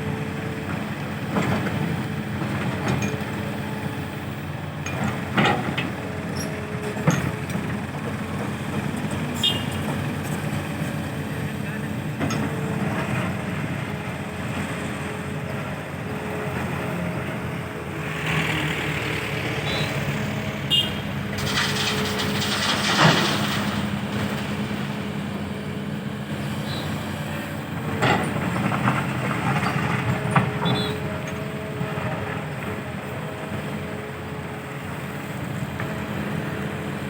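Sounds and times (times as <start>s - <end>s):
diesel engines running: 0.0s - 37.0s.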